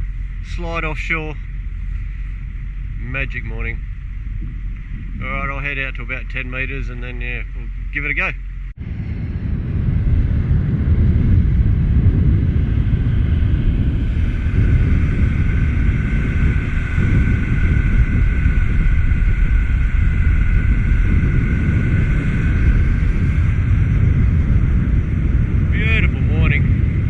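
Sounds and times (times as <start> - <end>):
motor whine: 0.0 - 27.0
outboard motor running: 0.0 - 27.0
wind and water on microphone: 0.0 - 27.0.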